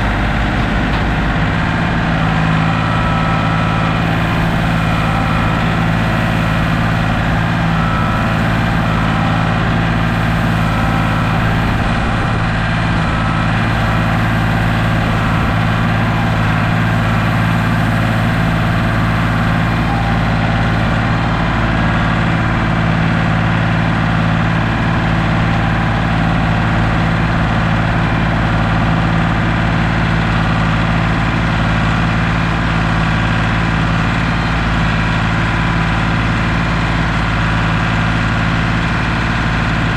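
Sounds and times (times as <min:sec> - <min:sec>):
large engine running steadily: 0:00.0 - 0:39.9.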